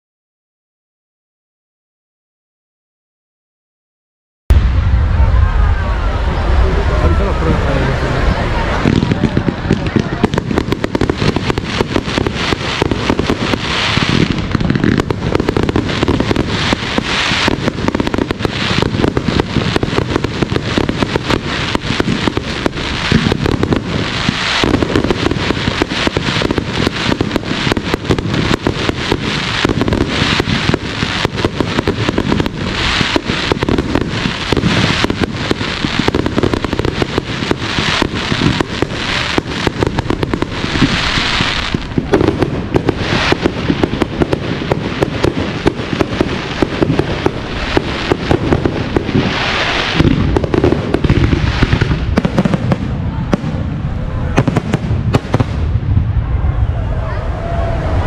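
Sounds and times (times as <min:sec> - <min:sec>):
firework hissing crackle: 0:04.6 - 0:55.8.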